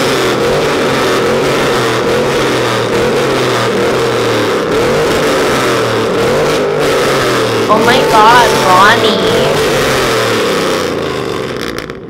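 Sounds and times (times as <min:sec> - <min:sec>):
truck engine and exhaust droning: 0:00.0 - 0:11.9.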